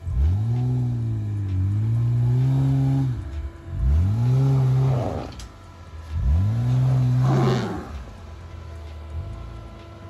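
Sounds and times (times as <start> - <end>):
off-road engine revving: 0.0 - 10.0.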